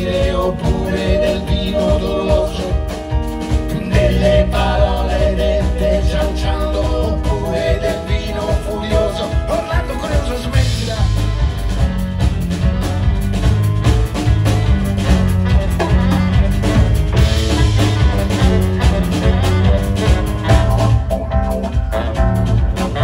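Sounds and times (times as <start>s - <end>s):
bass line: 0.0s - 23.0s
drum kit beat: 0.0s - 23.0s
guitar: 0.0s - 23.0s.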